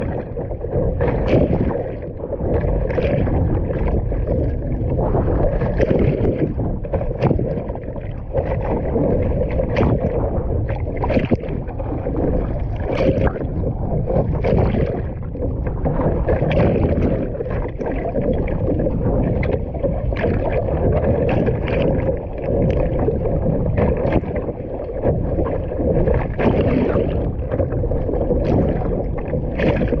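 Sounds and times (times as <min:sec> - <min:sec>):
sea water splashing around boat: 0:00.0 - 0:30.0.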